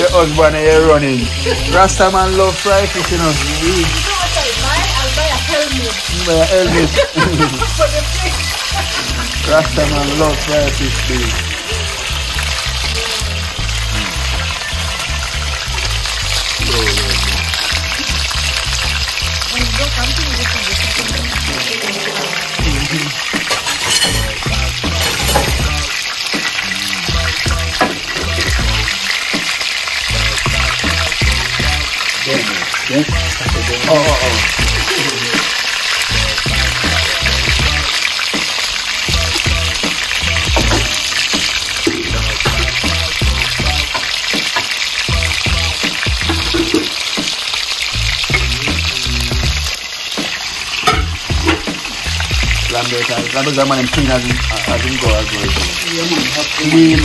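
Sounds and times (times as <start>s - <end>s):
background music bass beat: 0.0s - 21.7s, 22.6s - 32.2s, 32.9s - 57.0s
fish sizzling in hot oil: 0.0s - 57.0s.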